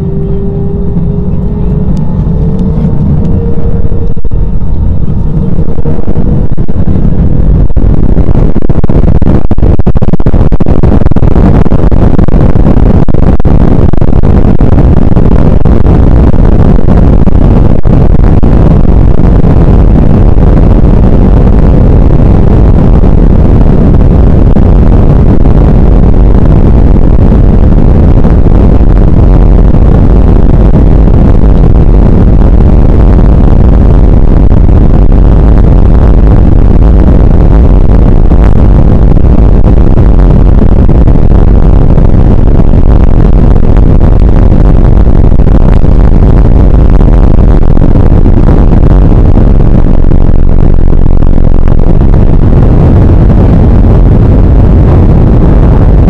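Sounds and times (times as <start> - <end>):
engine and runway rumble: 0.0 - 49.5
jet engine whine: 0.0 - 56.0.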